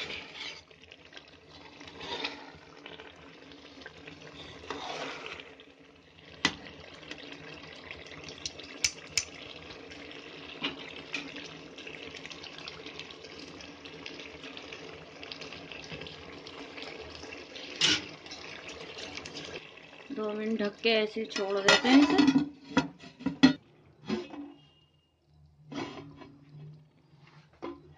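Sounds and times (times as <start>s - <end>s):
curry sizzling and bubbling: 0.0s - 27.9s.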